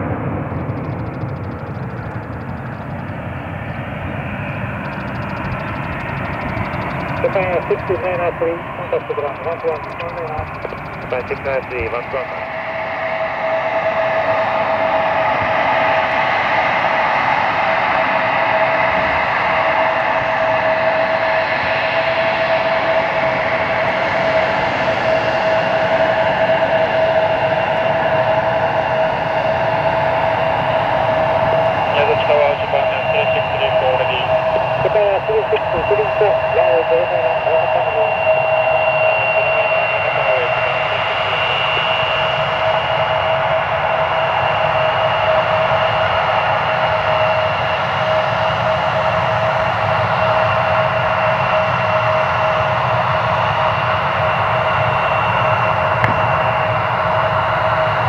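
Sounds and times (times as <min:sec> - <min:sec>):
jet airliner taxiing: 0:00.0 - 0:58.0.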